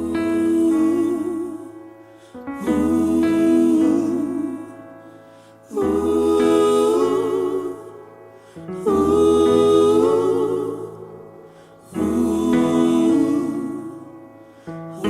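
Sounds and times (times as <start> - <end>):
slow music with sustained chords: 0.0 - 15.0.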